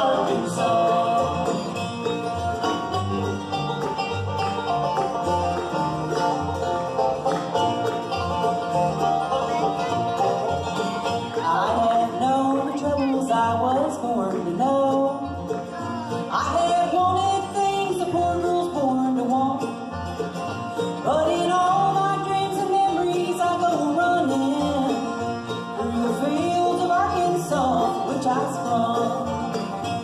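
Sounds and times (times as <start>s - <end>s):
bluegrass band playing: 0.0s - 30.0s
sliding guitar lead line: 0.0s - 30.0s.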